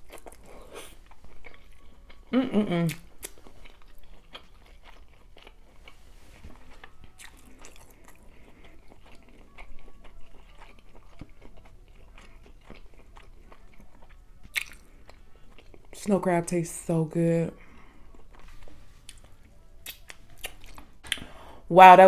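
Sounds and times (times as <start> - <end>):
chewing crab meat: 0.0 - 16.0, 17.6 - 21.4.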